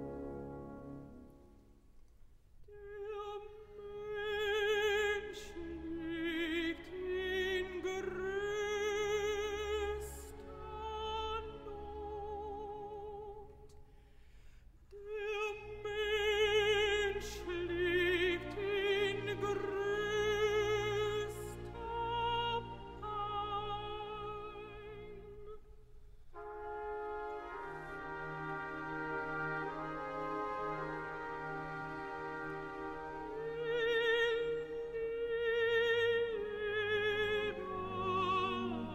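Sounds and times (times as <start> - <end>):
classical accompaniment: 0.0 - 13.6, 15.0 - 25.6, 26.4 - 38.9
operatic voice singing with vibrato: 2.8 - 13.5, 14.9 - 25.6, 27.7 - 38.9.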